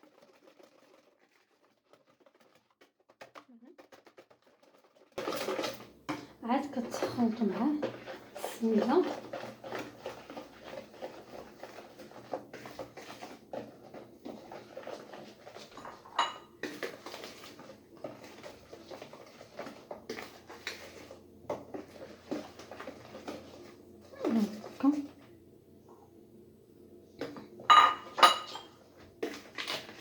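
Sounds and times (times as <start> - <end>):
utensil scraping mixing bowl: 0.0 - 25.3.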